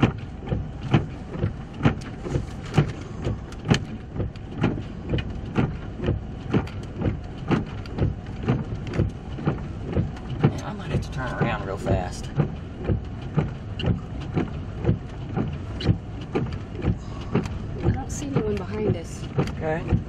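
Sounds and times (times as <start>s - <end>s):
engine idling hum: 0.0s - 20.0s
turn signal clicking: 0.0s - 20.0s.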